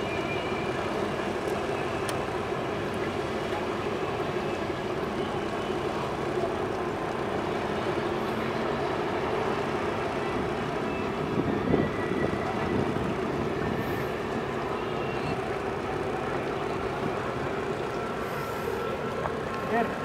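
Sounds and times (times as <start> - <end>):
ship engine rumbling: 0.0 - 20.0.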